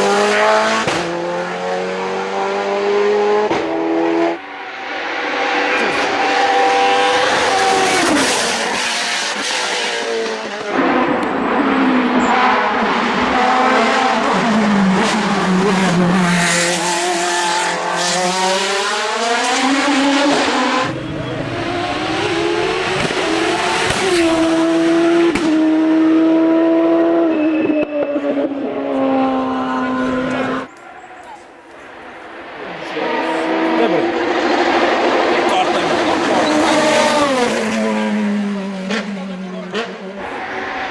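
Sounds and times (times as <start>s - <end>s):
race car engines accelerating: 0.0s - 40.9s.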